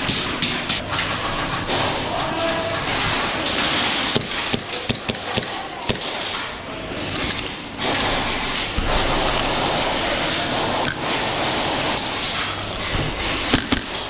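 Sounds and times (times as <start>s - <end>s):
background noise: 0.0s - 14.0s.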